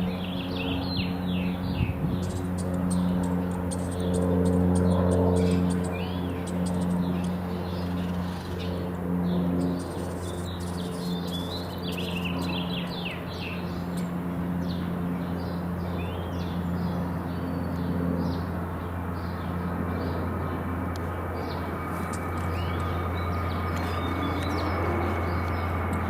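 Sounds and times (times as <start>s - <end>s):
low engine hum: 0.0s - 26.0s
small birds chirping: 0.0s - 26.0s.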